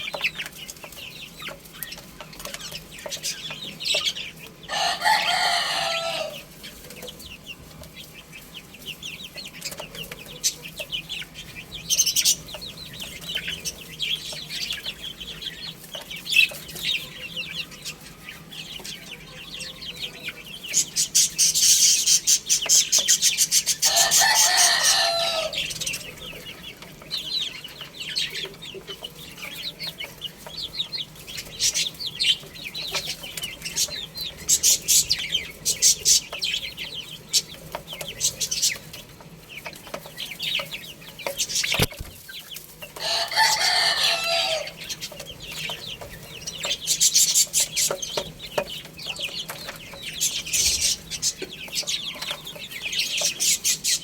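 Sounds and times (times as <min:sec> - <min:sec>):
chicken calling: 0:00.0 - 0:54.0
chicks peeping: 0:00.0 - 0:54.0.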